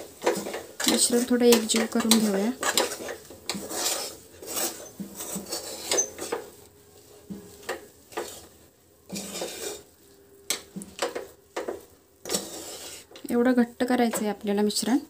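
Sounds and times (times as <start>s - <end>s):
metal utensil scraping thick mixture: 0.0s - 13.2s.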